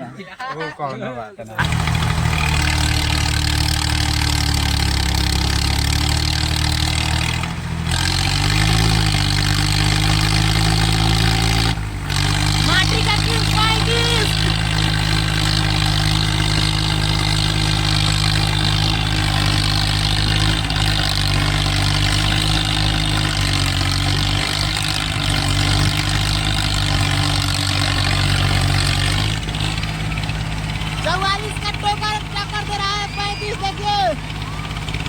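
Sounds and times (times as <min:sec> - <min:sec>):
tractor diesel engines straining: 0:00.0 - 0:35.0.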